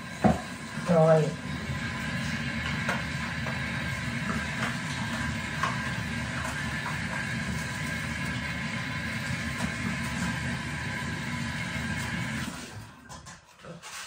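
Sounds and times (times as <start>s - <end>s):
tap water running into sink: 0.0s - 13.5s.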